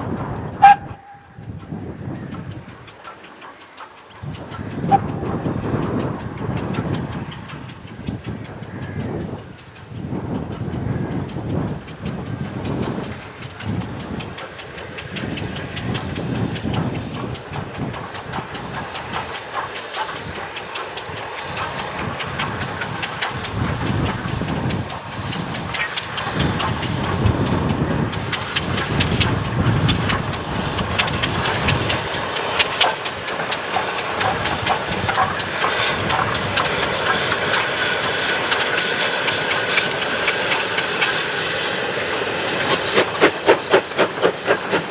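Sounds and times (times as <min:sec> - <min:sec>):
steam hiss: 0:00.0 - 0:44.9
steam locomotive exhaust beats: 0:00.0 - 0:44.9
wheel on rail clatter: 0:00.0 - 0:44.9.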